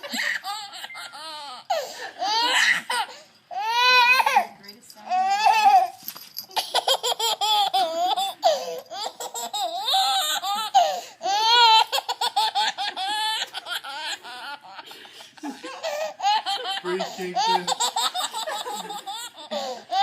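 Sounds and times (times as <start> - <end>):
baby laughing and squealing: 0.0 - 4.5, 5.1 - 20.0.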